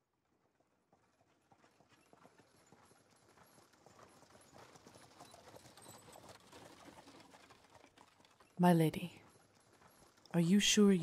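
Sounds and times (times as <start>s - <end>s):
horse hooves clip-clopping: 0.0s - 11.0s.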